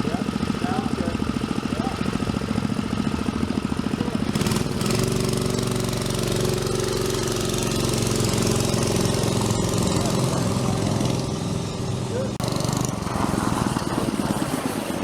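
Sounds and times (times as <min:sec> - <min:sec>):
mini bike engine puttering: 0:00.0 - 0:15.0.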